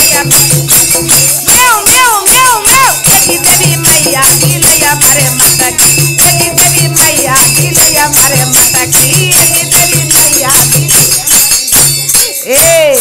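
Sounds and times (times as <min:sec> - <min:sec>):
dholak drum beating: 0:00.0 - 0:13.0
hand cymbals clashing: 0:00.0 - 0:13.0.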